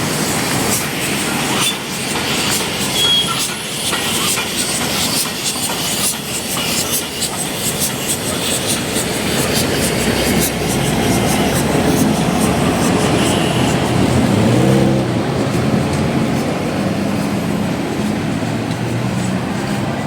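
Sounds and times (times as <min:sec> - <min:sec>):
high wheel squeal: 0:00.0 - 0:20.0
train wheels clicking over rail joints: 0:00.0 - 0:20.0.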